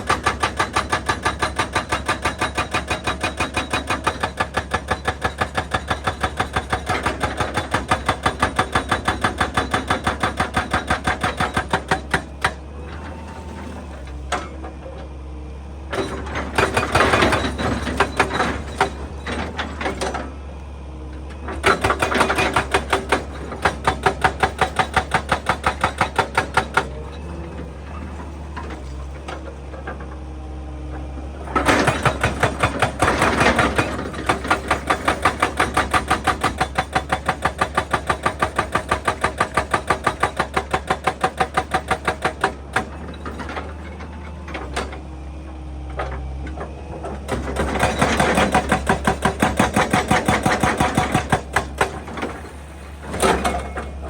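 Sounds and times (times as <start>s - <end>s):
hydraulic breaker hammering rock: 0.0s - 12.6s, 15.9s - 20.3s, 21.4s - 30.1s, 31.4s - 45.0s, 45.9s - 54.0s.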